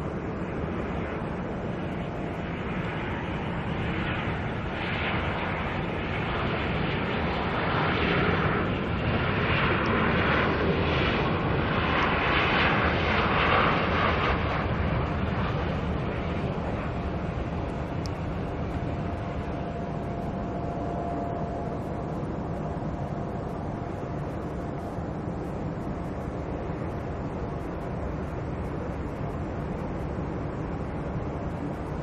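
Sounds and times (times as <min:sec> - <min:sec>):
jet airliner engines roaring: 0:00.0 - 0:32.0.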